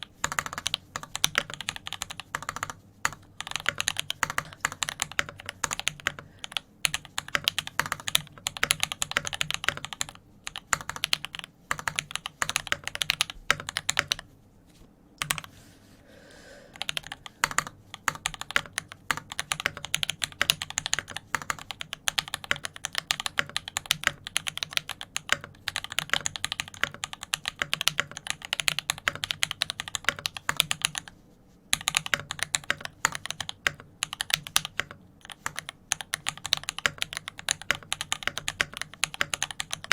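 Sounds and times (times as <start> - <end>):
fast typing on mechanical keyboard: 0.0 - 14.3, 15.2 - 15.5, 16.8 - 31.1, 31.7 - 39.9.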